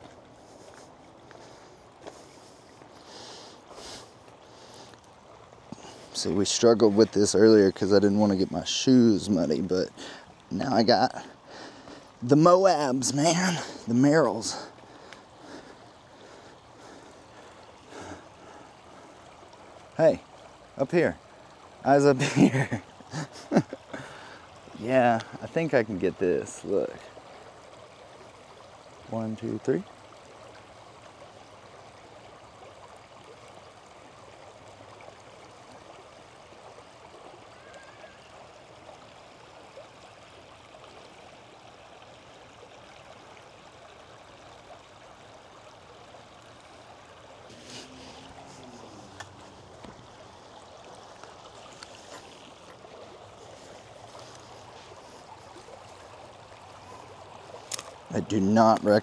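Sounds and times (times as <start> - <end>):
creek running over rocks: 0.0 - 59.0.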